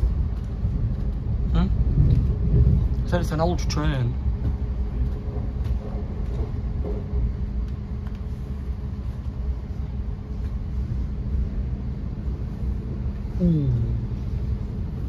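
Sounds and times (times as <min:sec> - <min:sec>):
constant hum: 0:00.0 - 0:15.0
train wheels rumbling on rails: 0:00.0 - 0:15.0.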